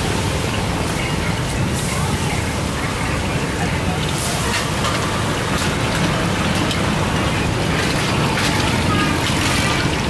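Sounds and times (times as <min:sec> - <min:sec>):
faint voices: 0:00.4 - 0:10.0.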